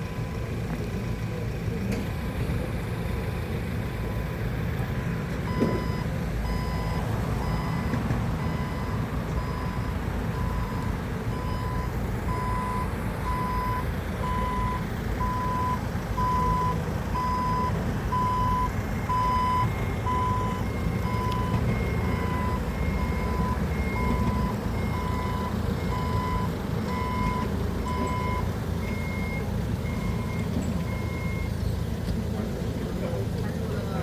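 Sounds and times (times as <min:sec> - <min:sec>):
reversing alarm beeping: 0:00.0 - 0:01.2, 0:05.0 - 0:31.6
diesel engine running: 0:00.0 - 0:34.0.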